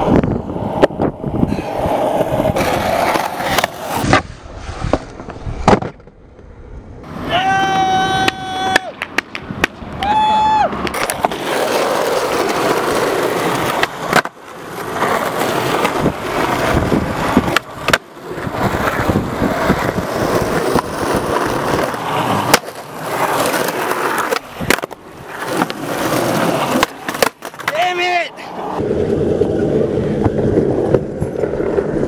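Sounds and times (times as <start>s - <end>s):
skateboard clacking on ground: 0.0s - 6.4s, 8.1s - 10.2s, 10.8s - 32.0s
skateboard wheels rolling on asphalt: 0.0s - 32.0s.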